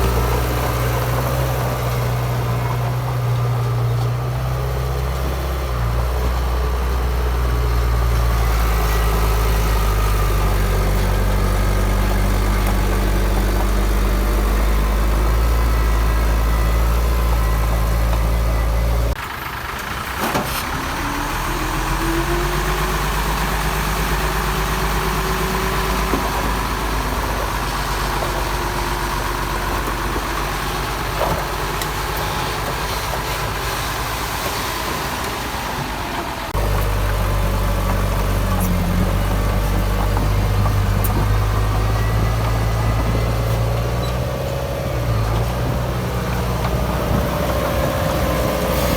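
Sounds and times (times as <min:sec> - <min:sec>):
heavy diesel machinery droning: 0:00.0 - 0:48.9.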